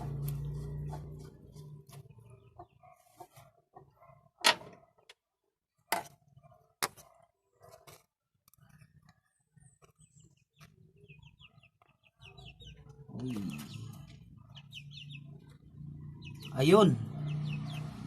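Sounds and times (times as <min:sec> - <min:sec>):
chickens clucking and chirping: 0:00.0 - 0:05.1, 0:08.6 - 0:18.0.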